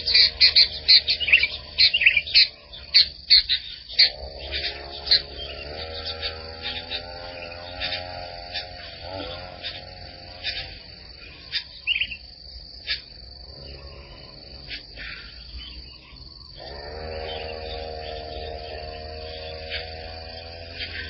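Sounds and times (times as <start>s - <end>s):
insects droning: 0.0s - 21.0s
low sustained music drone: 0.0s - 21.0s.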